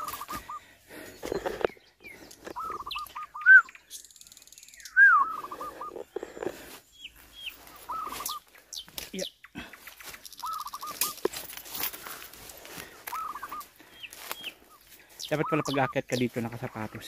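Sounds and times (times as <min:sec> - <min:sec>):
bird calling: 0:00.0 - 0:17.0.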